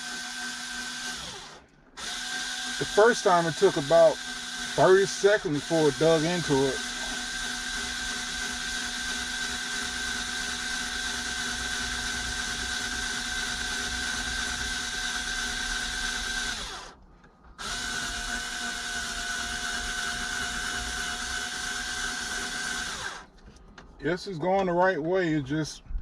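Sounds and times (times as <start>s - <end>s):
electric screwdriver running: 0.0s - 17.0s, 17.6s - 23.3s.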